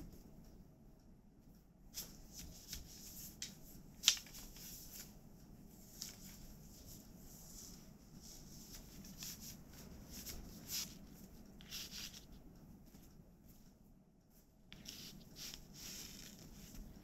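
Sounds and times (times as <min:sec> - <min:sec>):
fibres rustling: 0:02.0 - 0:13.7, 0:14.7 - 0:17.0.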